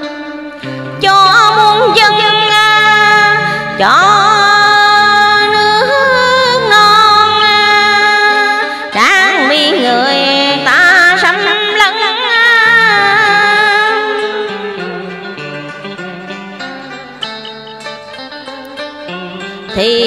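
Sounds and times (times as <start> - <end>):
woman singing with vibrato: 0.0 - 16.4, 19.6 - 20.0
karaoke backing track: 0.0 - 20.0.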